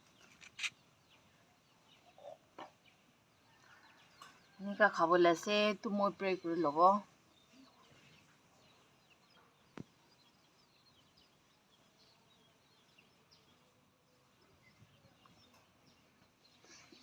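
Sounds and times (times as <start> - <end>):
faint bird chirps: 0.0 - 4.8, 7.3 - 17.0.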